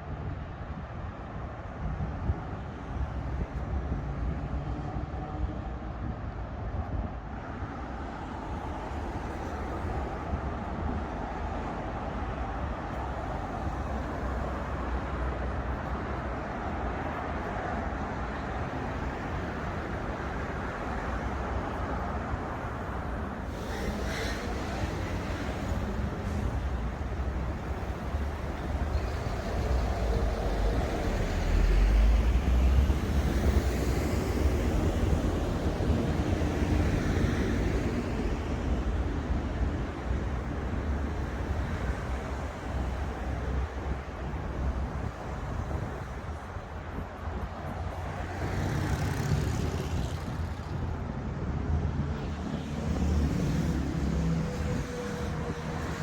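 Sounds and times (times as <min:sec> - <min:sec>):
hum of passing cars: 0:00.0 - 0:56.0.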